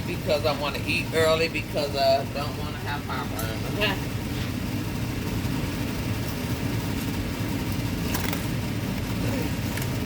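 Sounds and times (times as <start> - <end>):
electric fan running: 0.0 - 10.0.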